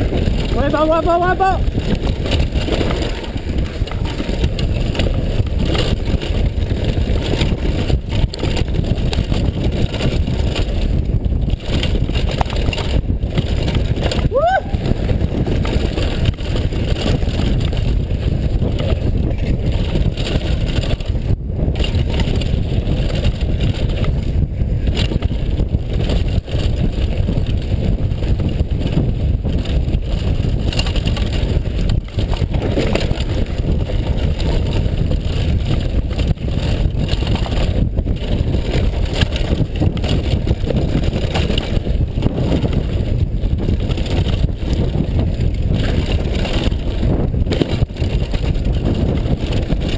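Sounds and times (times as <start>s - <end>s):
bike knocks and rattles: 0.0s - 49.9s
bike tyres on gravel trail: 0.0s - 49.9s
wind buffeting microphone: 0.0s - 49.9s.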